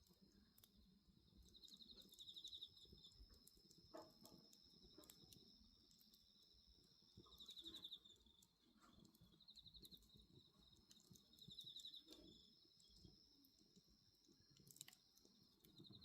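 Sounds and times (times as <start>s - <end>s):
bonfire crackling and popping: 0.0s - 16.0s
crickets trilling: 0.0s - 16.0s.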